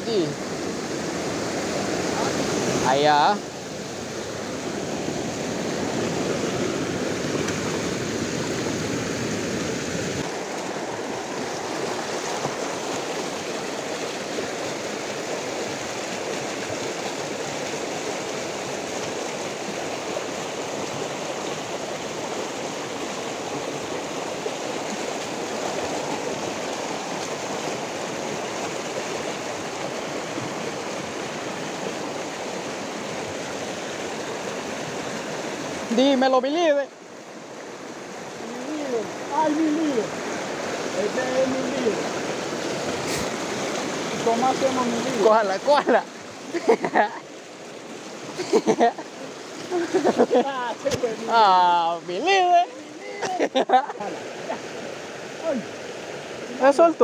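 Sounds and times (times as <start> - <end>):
creek flowing over stones: 0.0 - 57.0.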